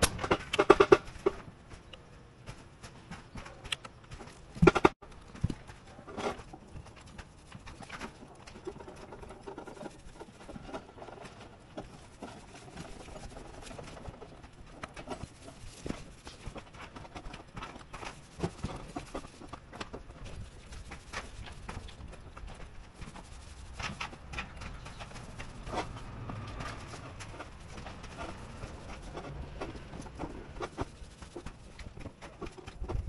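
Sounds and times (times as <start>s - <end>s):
paint roller knocks and rubbing: 0.5s - 33.0s.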